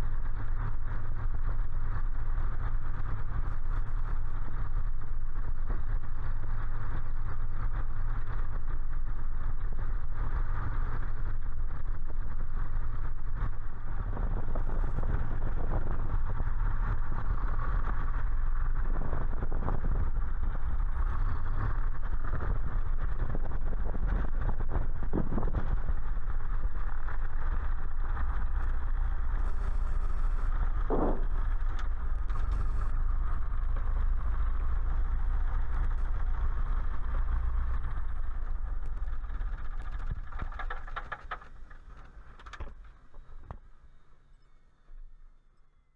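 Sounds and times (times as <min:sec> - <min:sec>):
light aircraft engine drone: 0:00.0 - 0:45.9.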